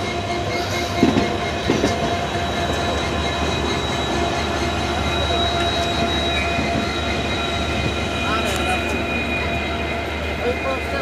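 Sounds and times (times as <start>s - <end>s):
high whining tones: 0.0s - 11.0s
train wheels rumbling on rails: 0.0s - 11.0s.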